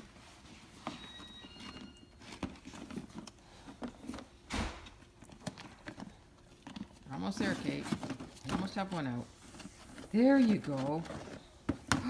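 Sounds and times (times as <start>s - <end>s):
dog chewing a package: 0.0s - 11.6s.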